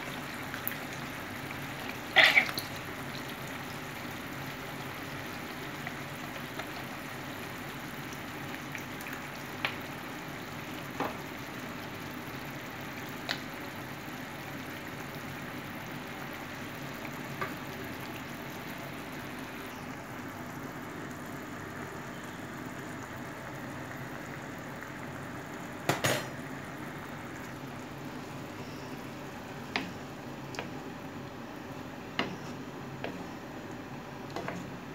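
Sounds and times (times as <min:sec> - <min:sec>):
sauce bubbling in a frying pan: 0:00.0 - 0:34.9.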